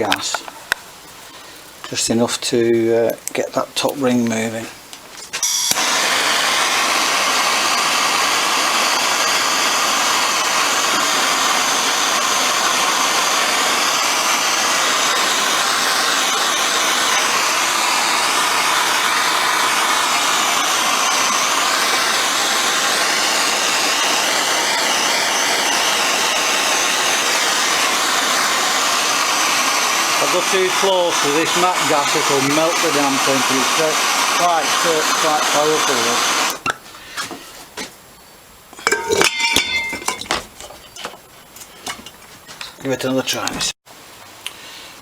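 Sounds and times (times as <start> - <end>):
blowtorch hissing: 0.0 - 37.4, 38.8 - 41.1.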